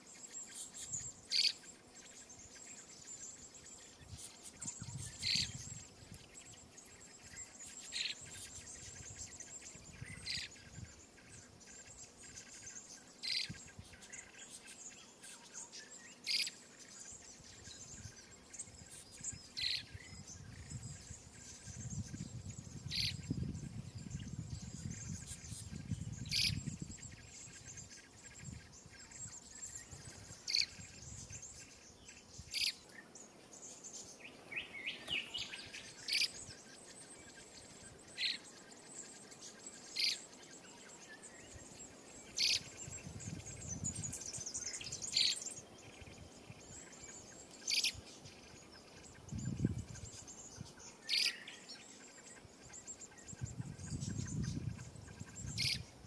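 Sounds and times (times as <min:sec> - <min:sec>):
high insect hum: 0:00.0 - 0:56.0
nestling birds chirping: 0:00.0 - 0:56.0.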